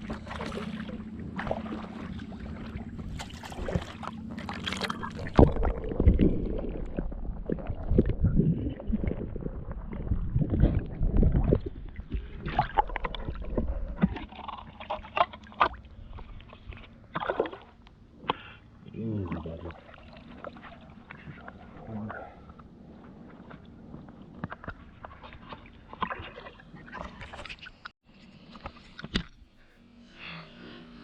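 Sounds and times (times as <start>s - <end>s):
water sloshing and splashing: 0.0s - 29.8s.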